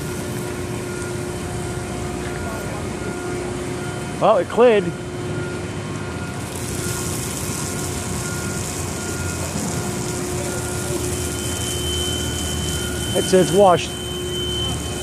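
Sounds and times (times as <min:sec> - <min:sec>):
heavy machinery engine rumble: 0:00.0 - 0:15.0
short beeps: 0:00.0 - 0:15.0.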